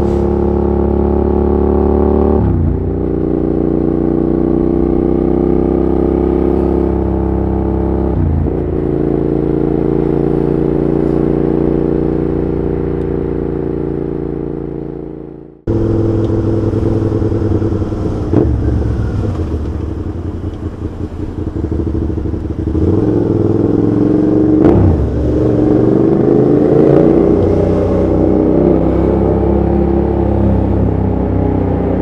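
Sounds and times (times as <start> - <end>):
loud motorcycle engine: 0.0 - 32.0.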